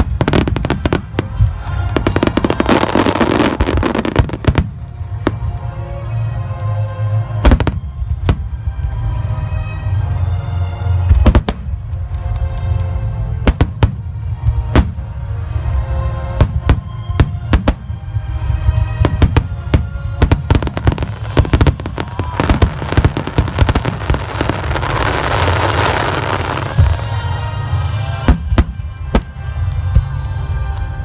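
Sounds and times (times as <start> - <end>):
fireworks bursting and crackling: 0.0 - 5.8, 11.1 - 31.0
music with sustained notes: 0.0 - 31.0.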